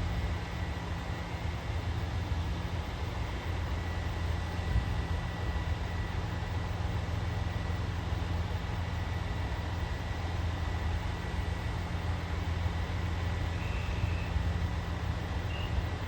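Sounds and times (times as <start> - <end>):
faint steady whine: 0.0 - 16.0
train diesel engine rumble: 0.0 - 16.0.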